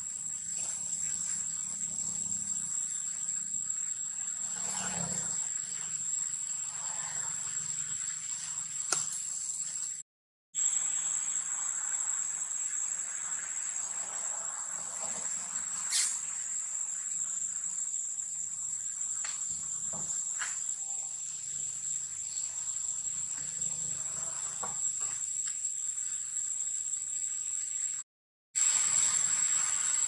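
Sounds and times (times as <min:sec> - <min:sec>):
insects buzzing drone: 0:00.0 - 0:10.0, 0:10.6 - 0:28.0, 0:28.6 - 0:30.0.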